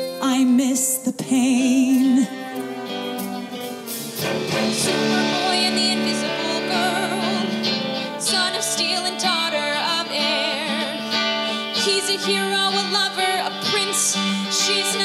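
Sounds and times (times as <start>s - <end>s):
woman singing with vibrato: 0.0s - 2.6s, 4.2s - 15.0s
band with guitar: 0.0s - 15.0s.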